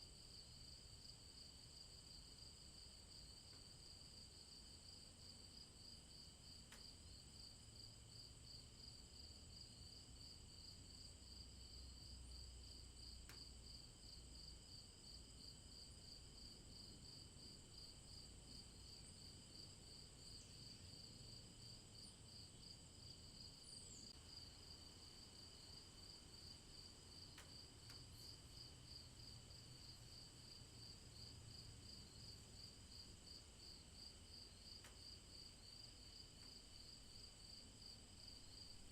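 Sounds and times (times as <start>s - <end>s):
insects pulsing chirp: 0.2s - 38.9s.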